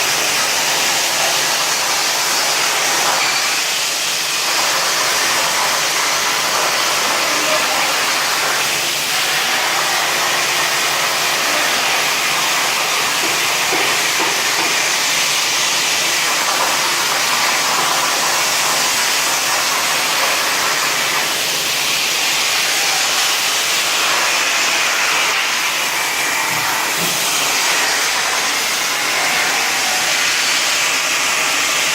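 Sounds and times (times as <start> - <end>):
plasma cutter arc hissing: 0.0 - 31.9.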